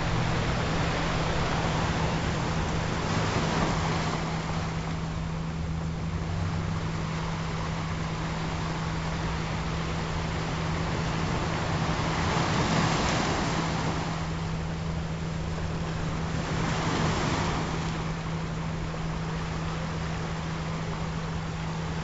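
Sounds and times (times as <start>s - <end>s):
low hum of tones: 0.0s - 22.0s
ocean surf washing in: 0.0s - 22.0s.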